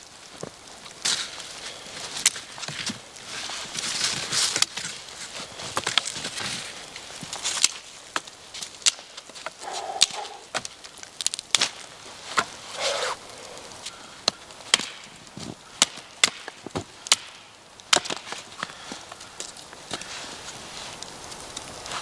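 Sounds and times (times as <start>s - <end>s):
firewood cracking and knocking: 0.1s - 9.7s, 10.4s - 22.0s.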